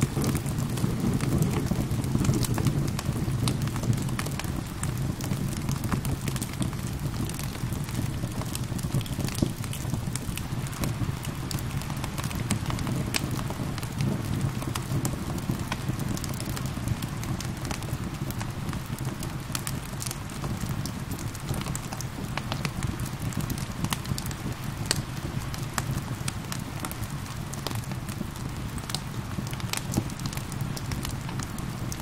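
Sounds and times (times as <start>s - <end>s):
rain falling: 0.0s - 32.0s
wood fire crackling and popping: 0.0s - 32.0s.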